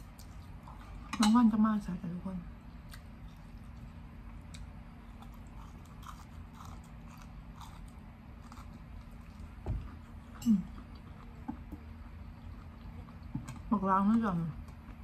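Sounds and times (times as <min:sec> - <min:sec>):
chewing noodles and greens: 0:00.0 - 0:01.6, 0:02.6 - 0:15.0.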